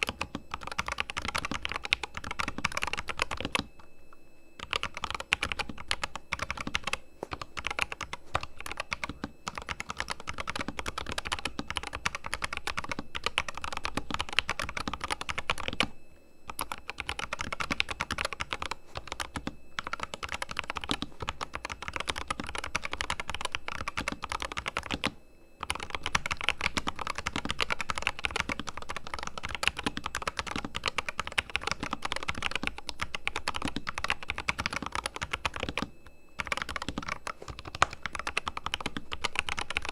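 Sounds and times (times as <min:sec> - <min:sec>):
mechanical keyboard typing: 0:00.0 - 0:03.7, 0:04.6 - 0:15.9, 0:16.5 - 0:39.9.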